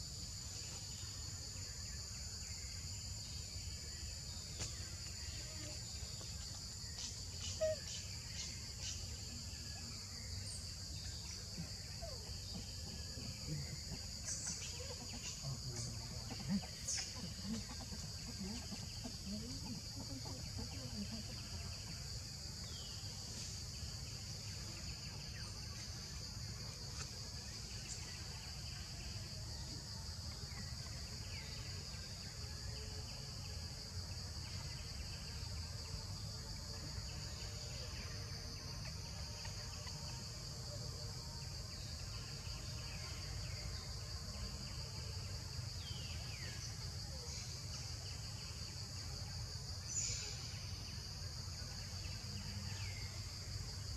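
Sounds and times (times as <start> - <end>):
insect chorus droning: 0.0 - 53.9.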